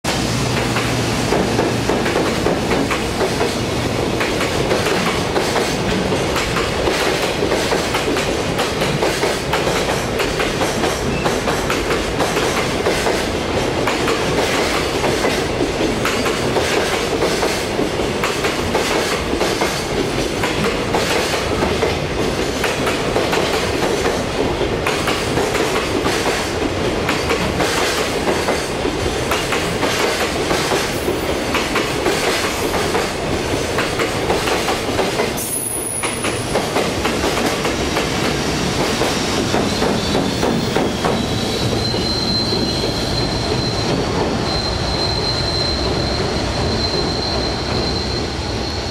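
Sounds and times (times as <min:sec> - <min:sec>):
freight train rumble: 0:00.0 - 0:48.9.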